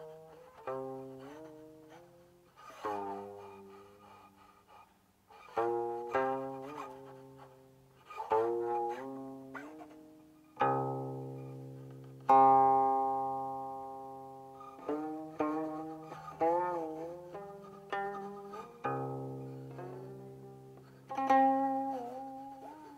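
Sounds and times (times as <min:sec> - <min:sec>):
plucked zither notes: 0:00.0 - 0:22.9.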